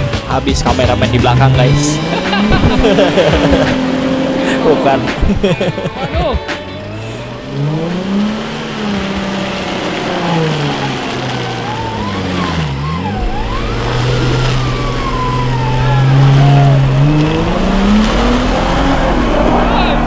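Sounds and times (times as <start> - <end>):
off-road engine revving: 0.0 - 20.0.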